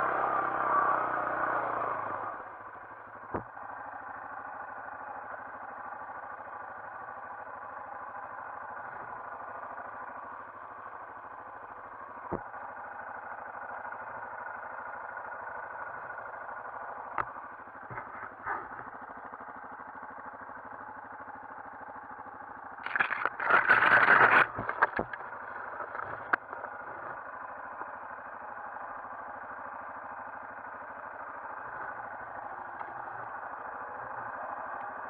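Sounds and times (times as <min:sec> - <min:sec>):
muffled atv engine running: 0:00.0 - 0:35.0.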